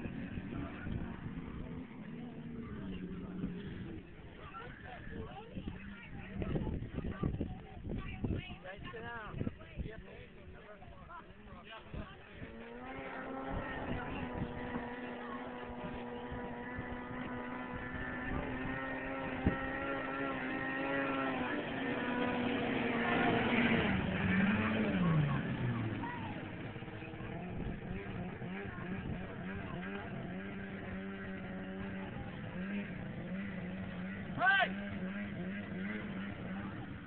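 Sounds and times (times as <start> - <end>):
snowmobile engine revving: 0.0 - 7.1, 12.1 - 37.0.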